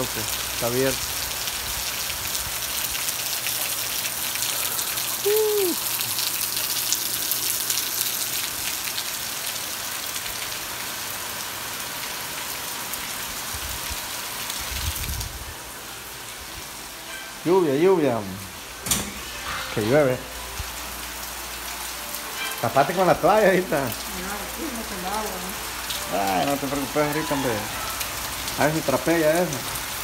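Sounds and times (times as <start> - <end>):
heavy rain on ground: 0.0 - 30.0.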